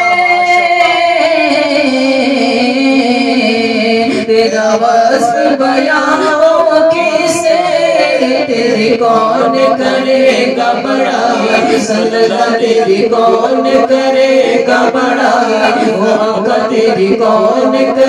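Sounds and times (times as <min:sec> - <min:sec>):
men singing devotional song: 0:00.0 - 0:18.0.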